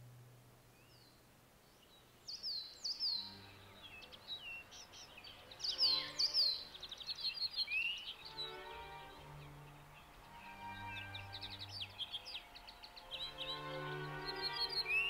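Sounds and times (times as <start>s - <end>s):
faint sustained musical tones: 0.0s - 15.0s
birds chirping and trilling: 0.7s - 15.0s.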